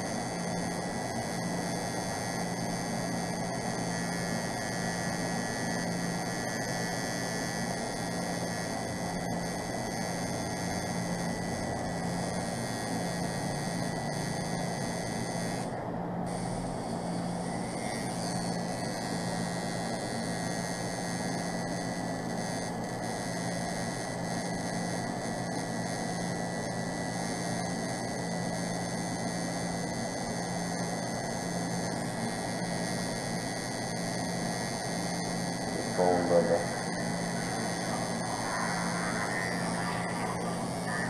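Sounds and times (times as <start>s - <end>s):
tattoo machine buzzing: 0.0s - 41.0s.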